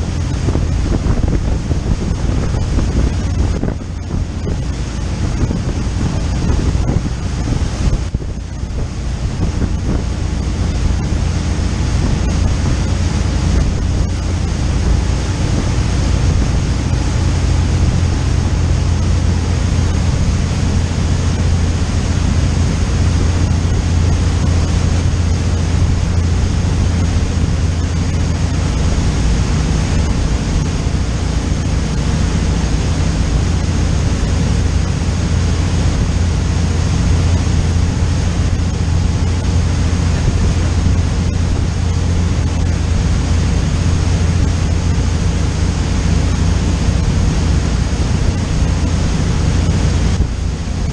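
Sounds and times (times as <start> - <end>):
boat engine drone: 0.0 - 50.9
churning wake water: 0.0 - 50.9
wind buffeting microphone: 0.0 - 50.9.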